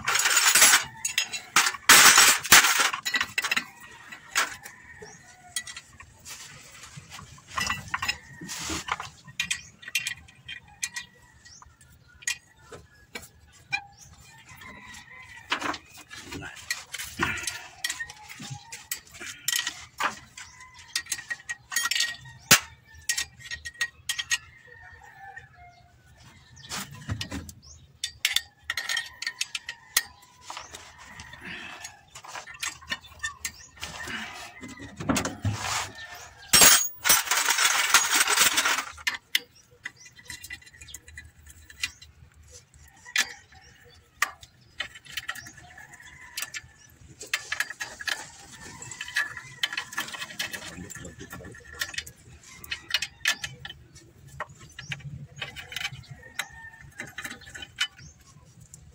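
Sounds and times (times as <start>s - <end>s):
wrench clinking on bolts: 0.0s - 6.1s, 7.5s - 25.0s, 26.5s - 35.4s, 36.2s - 58.9s.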